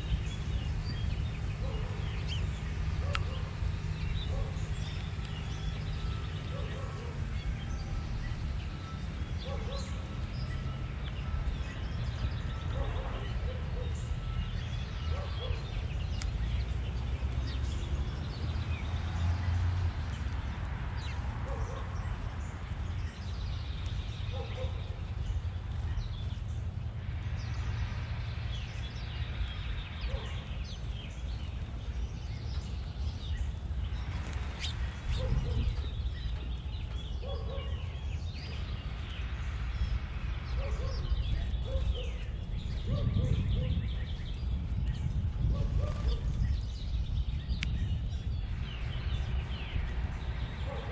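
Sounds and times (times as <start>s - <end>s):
small birds chirping: 0.0s - 50.9s
steady low rumble: 0.0s - 50.9s.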